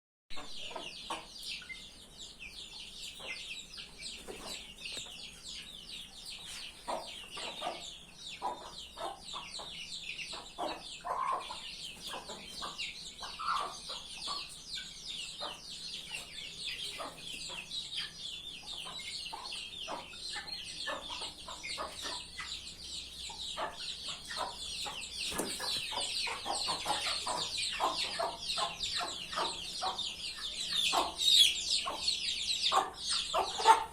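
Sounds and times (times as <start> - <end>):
hens clucking: 6.3 - 33.9.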